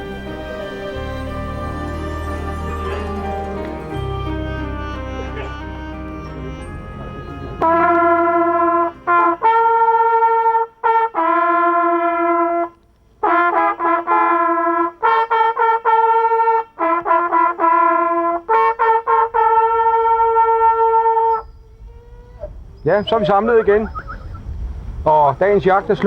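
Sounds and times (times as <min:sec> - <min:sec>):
hunting horn signal: 0:00.0 - 0:26.0.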